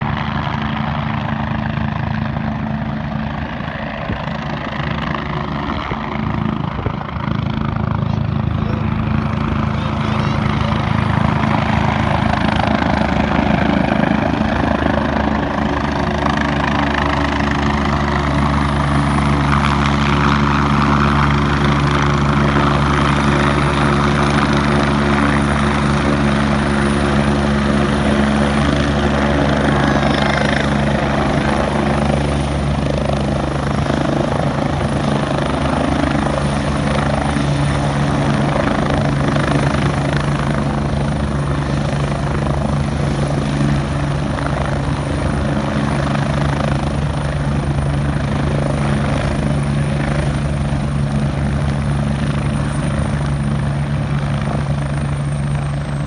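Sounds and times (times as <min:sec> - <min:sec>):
helicopter rotor droning: 0:00.0 - 0:56.0.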